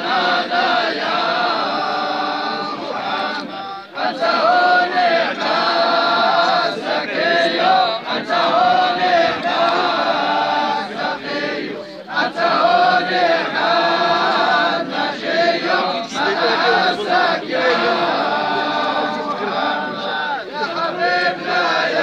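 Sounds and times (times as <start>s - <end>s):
group of men chanting: 0.0s - 22.0s.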